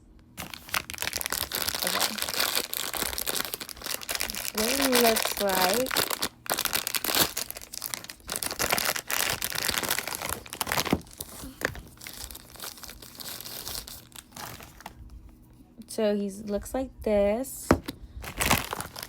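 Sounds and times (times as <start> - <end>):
packaging crinkling and tearing: 0.4 - 15.2, 18.2 - 19.0.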